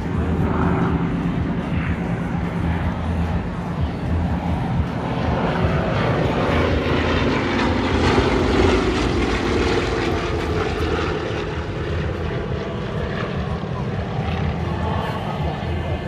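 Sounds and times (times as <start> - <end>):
propeller aircraft engine: 0.0 - 16.0.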